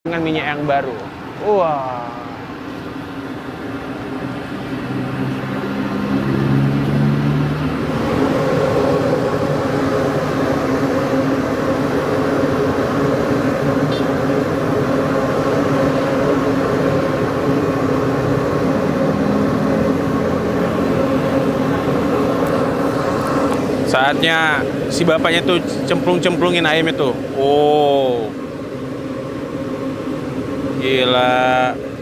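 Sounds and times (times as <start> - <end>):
gas burner rushing and humming: 0.1 - 32.0.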